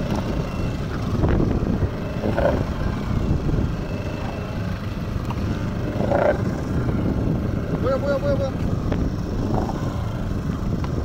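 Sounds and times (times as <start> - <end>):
steady low rumble: 0.0 - 11.0
wind buffeting microphone: 0.0 - 11.0.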